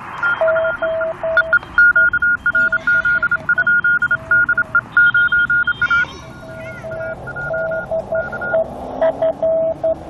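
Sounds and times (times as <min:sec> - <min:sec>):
high morse code beeps: 0:00.0 - 0:10.0
low morse code beeps: 0:00.0 - 0:10.0.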